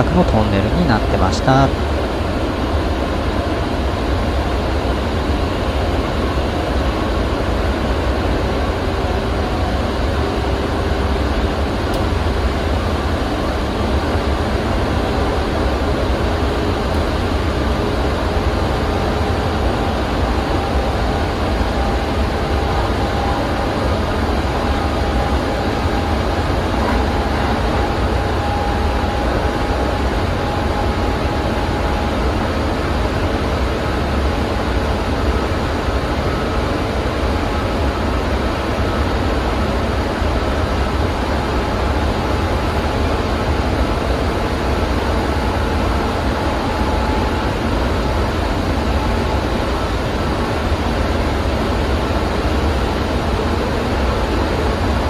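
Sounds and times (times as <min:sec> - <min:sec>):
train rumbling in tunnel: 0:00.0 - 0:55.0.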